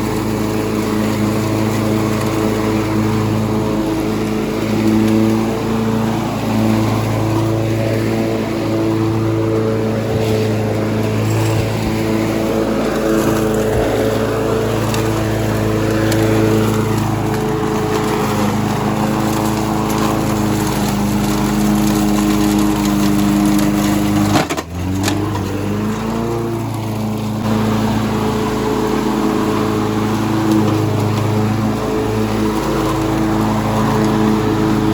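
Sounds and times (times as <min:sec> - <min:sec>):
lawn mower engine running: 0:00.0 - 0:34.9.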